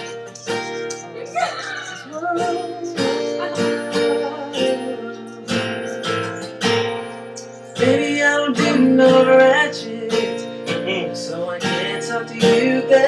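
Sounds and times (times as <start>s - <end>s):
guitar chords strummed: 0.0s - 13.0s.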